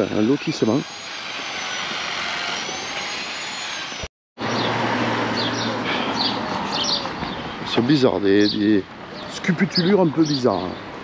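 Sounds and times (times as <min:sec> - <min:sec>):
vehicle engine and road noise: 0:02.0 - 0:11.0.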